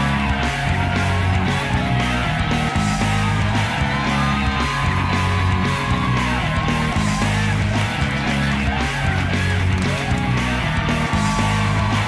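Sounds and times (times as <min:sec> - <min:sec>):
background guitar music: 0:00.0 - 0:12.0.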